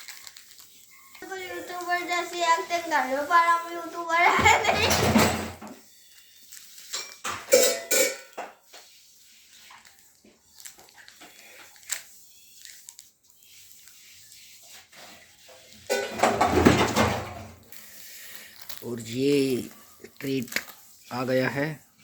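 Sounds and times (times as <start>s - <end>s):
biscuit packet rustling and clicking: 0.0s - 5.1s, 8.6s - 21.6s.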